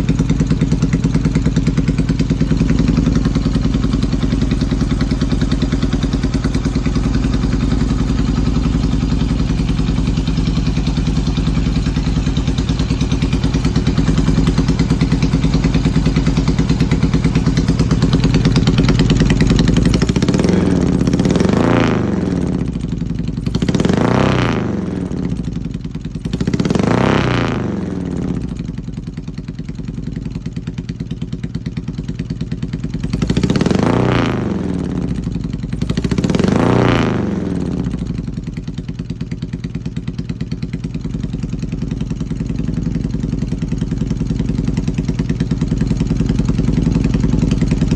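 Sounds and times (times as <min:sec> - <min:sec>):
misfiring engine idling and revving: 0:00.0 - 0:47.9.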